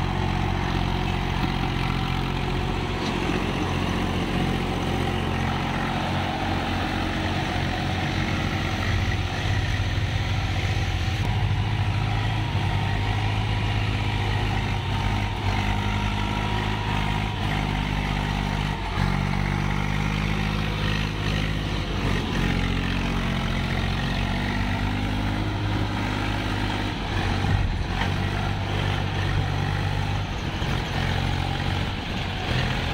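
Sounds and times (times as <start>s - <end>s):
tractor diesel engine under load: 0.0s - 32.9s.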